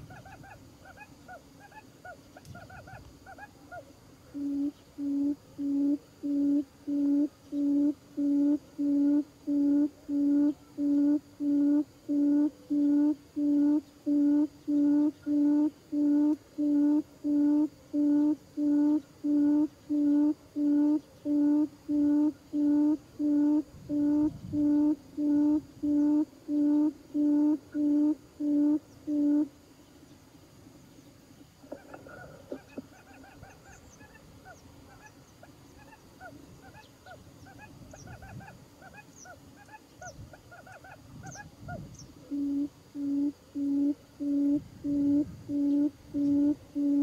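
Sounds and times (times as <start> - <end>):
bird call low hoot: 0.0 - 29.6, 31.6 - 47.0.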